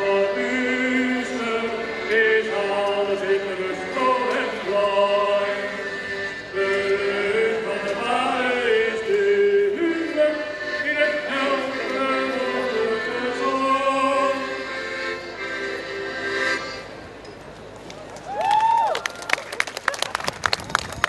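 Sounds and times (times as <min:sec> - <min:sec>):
accordion playing folk tune: 0:00.0 - 0:17.2.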